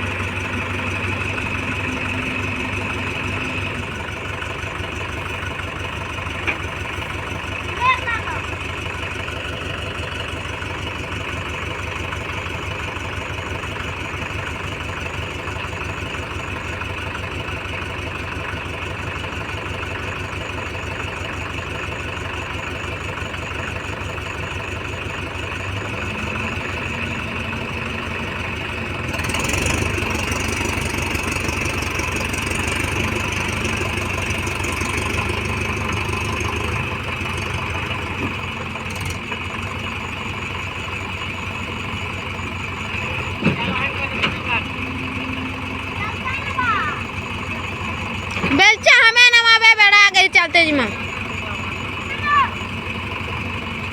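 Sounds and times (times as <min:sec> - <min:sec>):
heavy diesel engine revving: 0:00.0 - 0:53.9.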